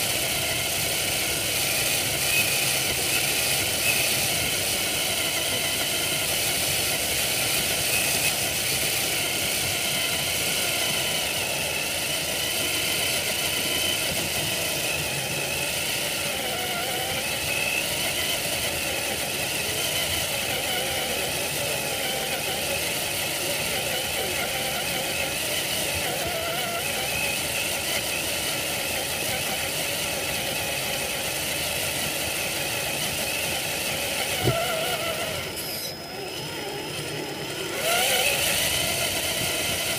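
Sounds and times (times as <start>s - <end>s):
electric motor and gearbox whining: 0.0s - 39.9s.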